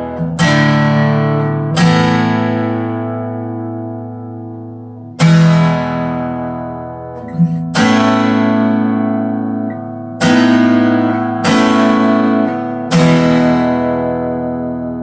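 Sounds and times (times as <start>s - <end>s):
acoustic guitar chords ringing: 0.0s - 15.0s.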